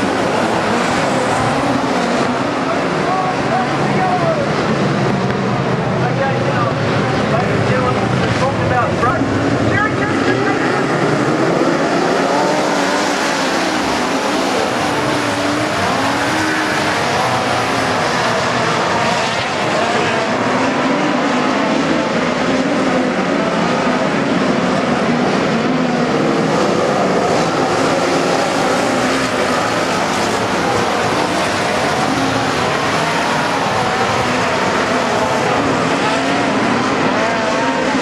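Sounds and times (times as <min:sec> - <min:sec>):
race car engines passing: 0:00.0 - 0:38.0.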